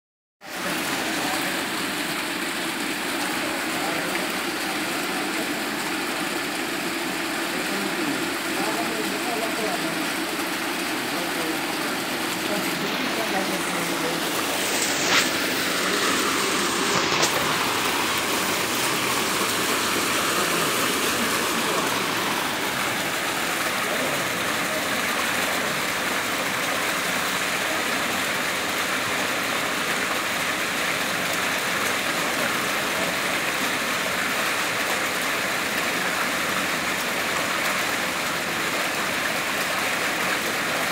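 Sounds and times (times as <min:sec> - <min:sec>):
fountain water rushing and splashing: 0:00.4 - 0:40.9.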